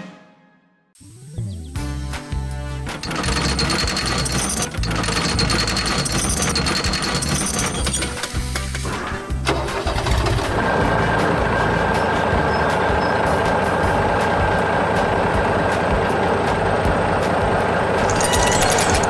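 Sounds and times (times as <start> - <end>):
background music: 0.0 - 19.0
vehicle engine running: 1.5 - 19.0.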